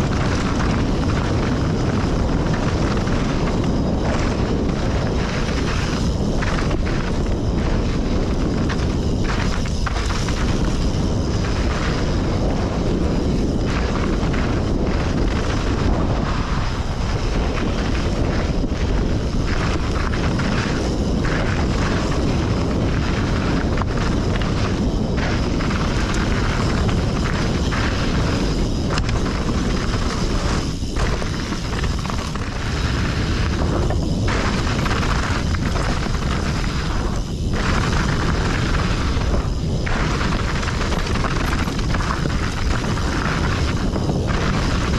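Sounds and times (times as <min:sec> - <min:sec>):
tyres rumbling over rocks: 0:00.0 - 0:44.9
wind buffeting microphone: 0:00.0 - 0:44.9.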